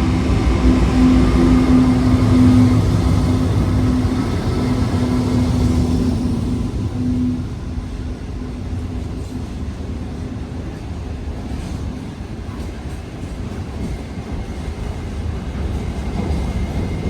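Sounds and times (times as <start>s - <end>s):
freight train wagons rumbling: 0.0s - 17.0s.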